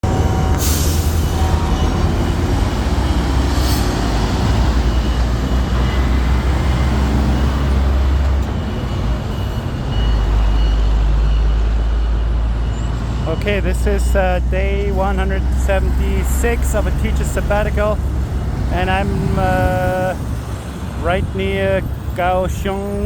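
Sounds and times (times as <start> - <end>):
diesel truck engine rumble: 0.0 - 23.0.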